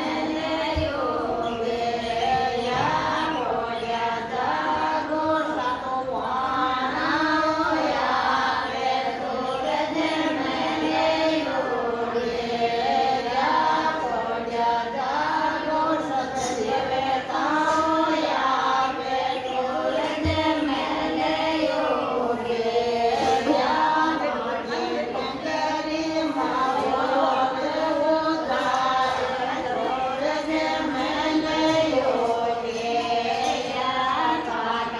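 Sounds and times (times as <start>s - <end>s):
women singing in unison: 0.0s - 34.9s.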